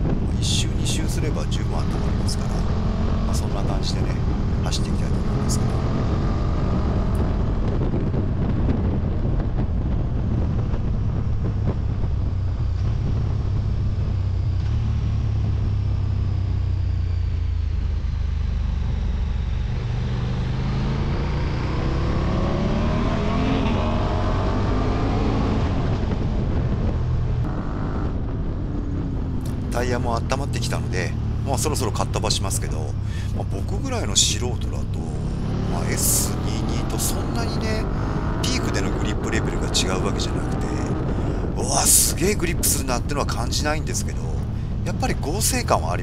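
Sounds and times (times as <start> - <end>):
heavy low rumble: 0.0 - 46.0
motorcycle engine accelerating: 0.0 - 46.0.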